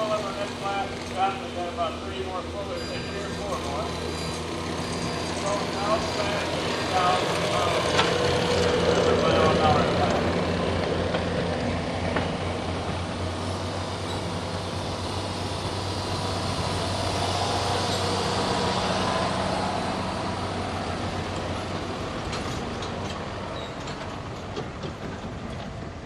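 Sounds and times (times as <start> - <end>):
vehicle engine running hard: 0.0 - 26.0.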